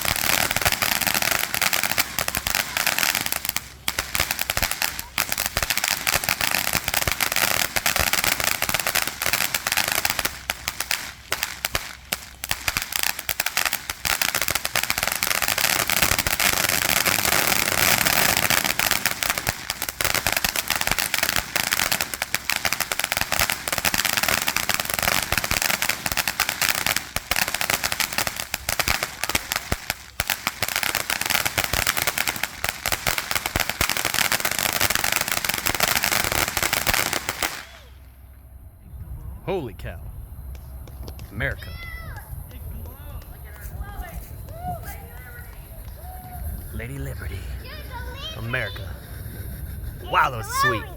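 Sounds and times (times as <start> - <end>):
firework hissing and crackling: 0.0 - 38.2, 40.4 - 50.9.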